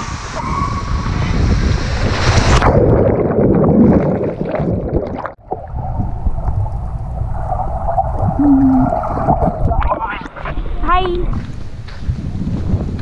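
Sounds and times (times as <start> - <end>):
underwater rumbling of water: 0.2 - 11.4.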